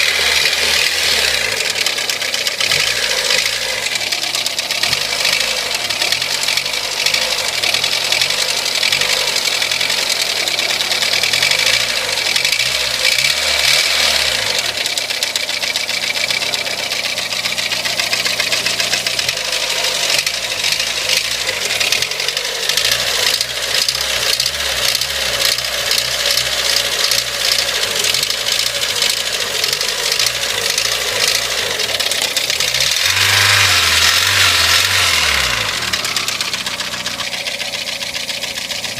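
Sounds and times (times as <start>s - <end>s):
engine running with rapid knocking: 0.0s - 38.9s.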